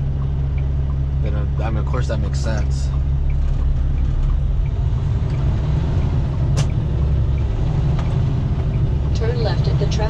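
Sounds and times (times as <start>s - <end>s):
diesel truck engine drone: 0.0s - 10.0s
road noise: 0.0s - 10.0s.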